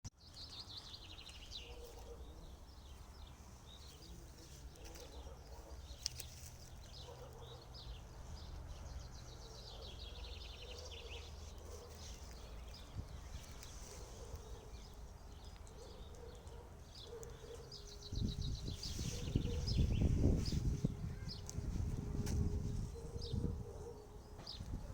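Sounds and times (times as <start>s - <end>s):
songbirds trilling: 0.2s - 24.9s.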